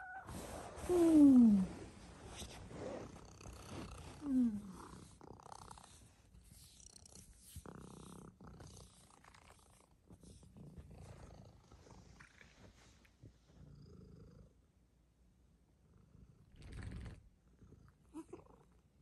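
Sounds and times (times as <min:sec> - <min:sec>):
cat purring: 0:00.0 - 0:14.7, 0:15.8 - 0:19.0.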